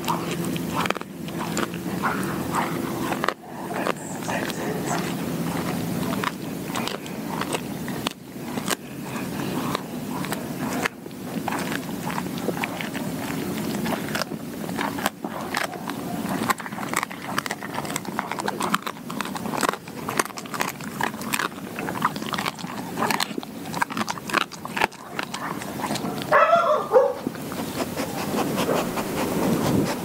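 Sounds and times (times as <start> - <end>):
dog chewing bones crunching: 0.0 - 30.0.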